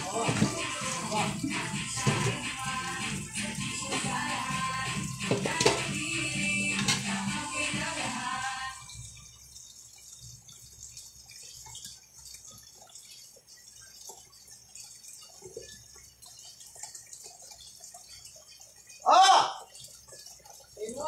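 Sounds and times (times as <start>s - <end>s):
stew bubbling: 0.0s - 21.0s.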